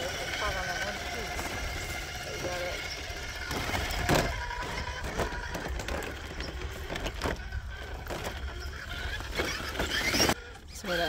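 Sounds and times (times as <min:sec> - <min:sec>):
toy car motor whining: 0:00.0 - 0:11.0
stones clicking under tyres: 0:01.0 - 0:10.4.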